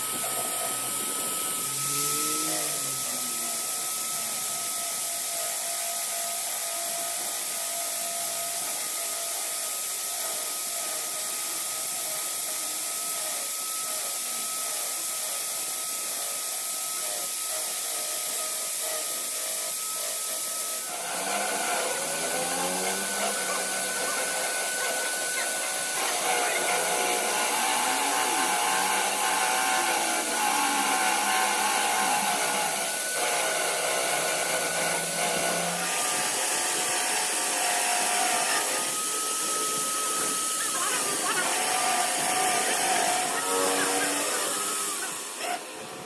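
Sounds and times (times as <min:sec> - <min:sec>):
thin steady whine: 0:00.0 - 0:46.0.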